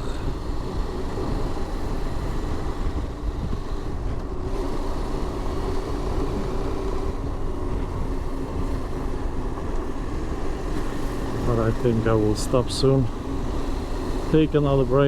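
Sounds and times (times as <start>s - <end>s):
motorcycle engine hum: 0.0s - 15.0s
road noise: 0.0s - 15.0s
wind noise: 0.0s - 15.0s.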